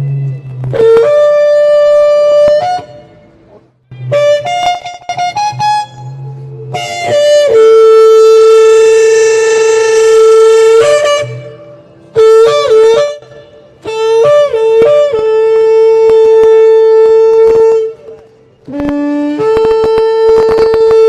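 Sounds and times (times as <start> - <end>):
shofar blasts: 0.0 - 3.2, 4.1 - 21.0.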